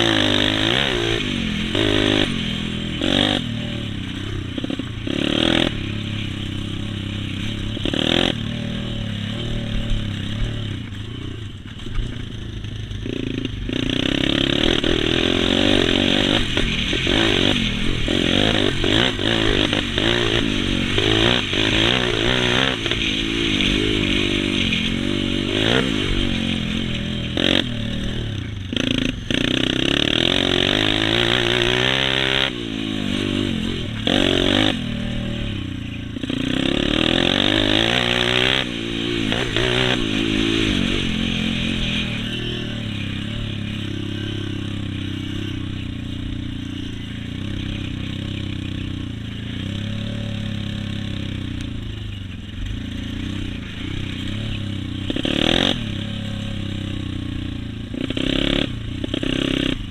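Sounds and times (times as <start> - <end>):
dirt bike engines revving past: 0.0 - 59.9.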